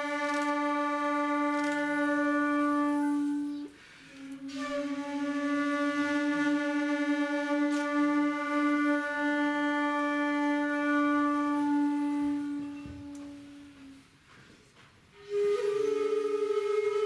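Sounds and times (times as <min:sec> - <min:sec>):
bamboo flute notes: 0:00.0 - 0:14.4, 0:15.1 - 0:17.0.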